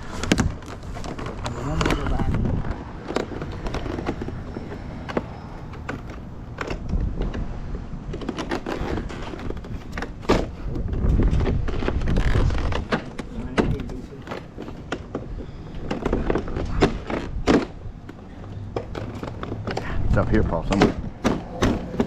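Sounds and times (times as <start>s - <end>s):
plastic siding knocks and clatter: 0.0s - 22.0s.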